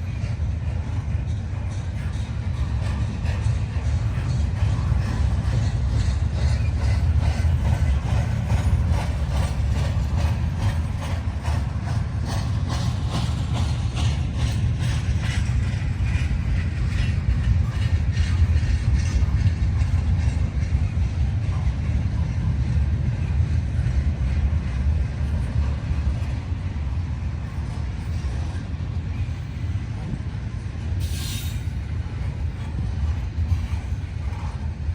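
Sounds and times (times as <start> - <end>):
freight train rumbling on rails: 0.0 - 34.9.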